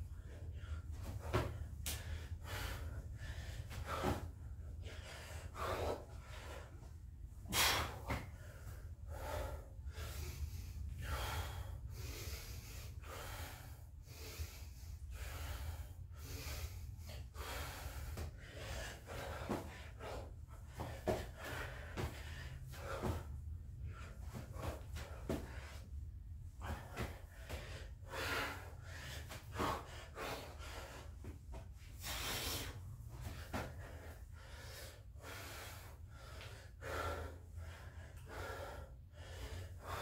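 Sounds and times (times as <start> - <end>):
man breathing hard: 0.0 - 40.0
steady low hum: 0.0 - 40.0.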